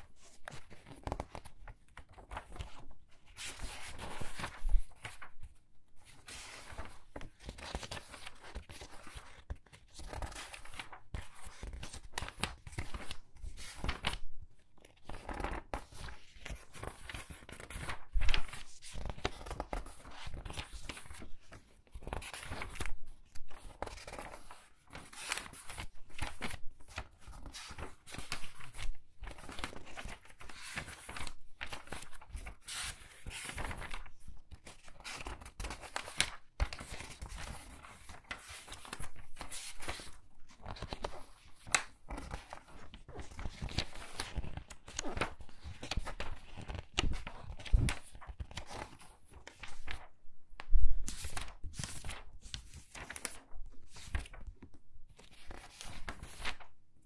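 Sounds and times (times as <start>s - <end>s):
book pages turning: 0.1s - 56.7s.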